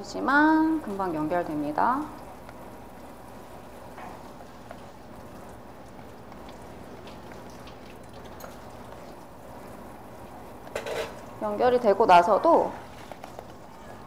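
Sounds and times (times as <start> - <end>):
custard whisked in a saucepan: 0.6 - 14.0.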